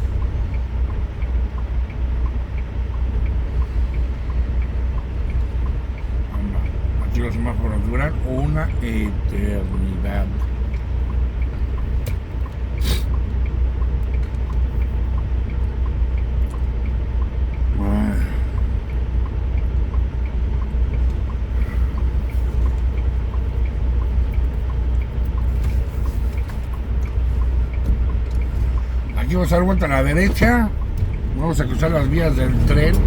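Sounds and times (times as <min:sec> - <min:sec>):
truck engine idling: 0:00.0 - 0:33.0
turn signal ticking: 0:00.0 - 0:33.0.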